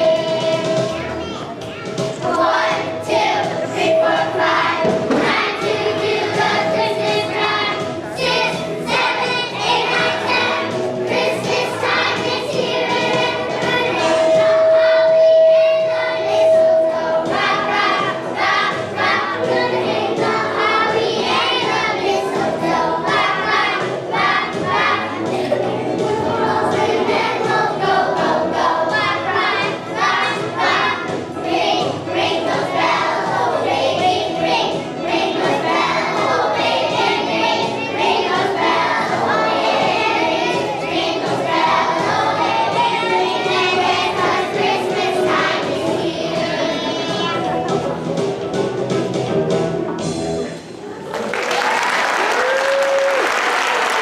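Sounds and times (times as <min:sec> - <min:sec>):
children's choir singing: 0:00.0 - 0:47.9
musical accompaniment: 0:00.0 - 0:51.1.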